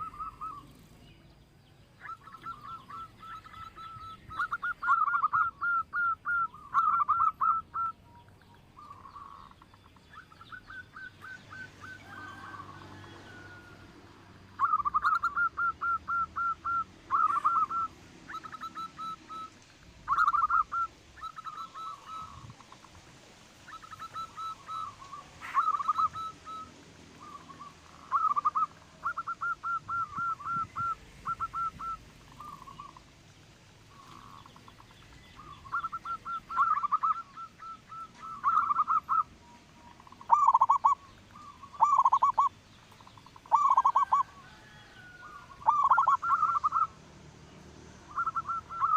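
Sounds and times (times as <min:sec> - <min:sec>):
dove cooing: 0:00.0 - 0:01.1, 0:02.0 - 0:23.0, 0:23.7 - 0:33.1, 0:33.8 - 0:47.0, 0:48.1 - 0:48.9.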